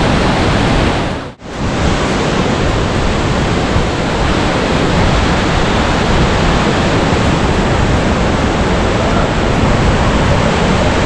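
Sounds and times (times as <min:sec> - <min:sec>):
waterfall rushing onto rocks: 0:00.0 - 0:11.0.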